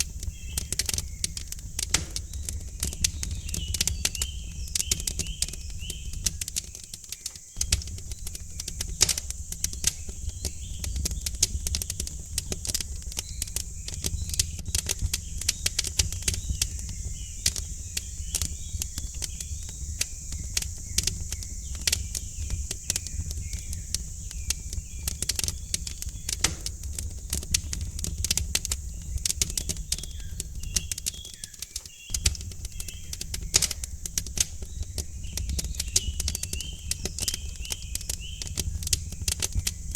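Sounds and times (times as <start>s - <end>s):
birds chirping: 0.0s - 39.9s
wood fire crackling and popping: 0.0s - 39.9s.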